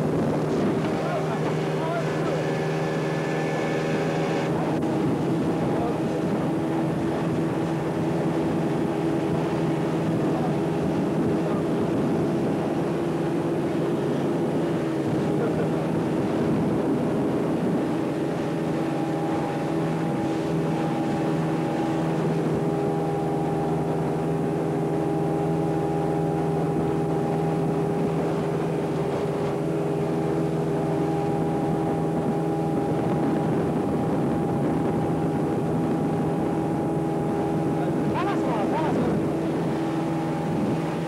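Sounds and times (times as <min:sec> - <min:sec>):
motorboat engine running: 0:00.0 - 0:41.0
rushing water noise: 0:00.0 - 0:41.0.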